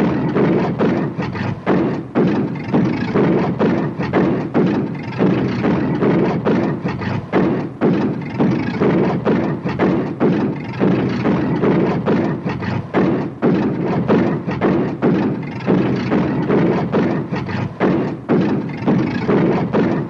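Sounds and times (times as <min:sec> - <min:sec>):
car engine running rough: 0:00.0 - 0:20.0.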